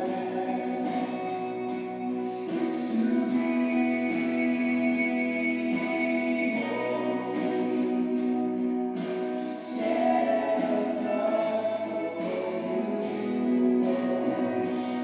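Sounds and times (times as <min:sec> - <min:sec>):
guitar accompaniment: 0:00.0 - 0:15.0
voices singing: 0:00.0 - 0:15.0.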